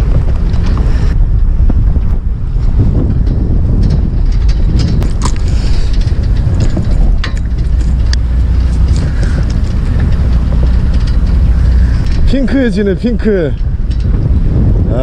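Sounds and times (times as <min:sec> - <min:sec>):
boat engine droning: 0:00.0 - 0:15.0
wind on microphone: 0:00.0 - 0:15.0.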